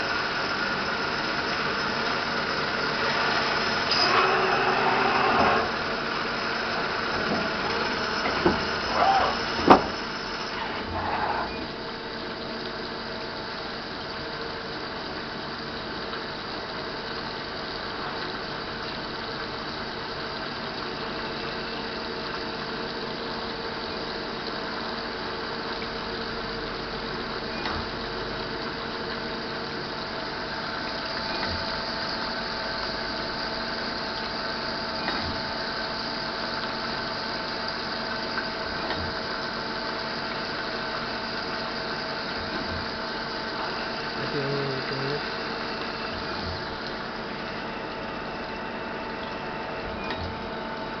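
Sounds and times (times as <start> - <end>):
coolant hissing: 0.0 - 51.0
lathe machine hum: 0.0 - 51.0.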